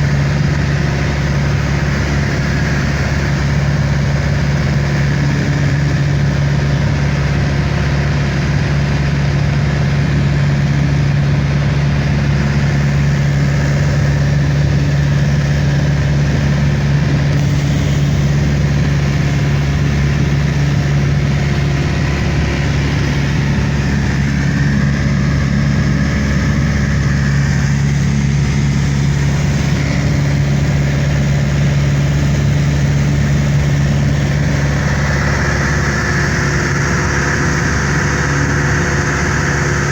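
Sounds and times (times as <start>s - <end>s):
airliner engines droning: 0.0s - 39.9s.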